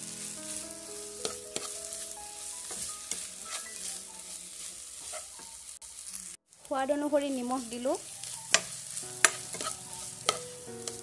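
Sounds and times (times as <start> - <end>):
spatula scraping a pan: 0.0 - 6.4, 8.0 - 11.0
meat sizzling in a pan: 0.0 - 11.0.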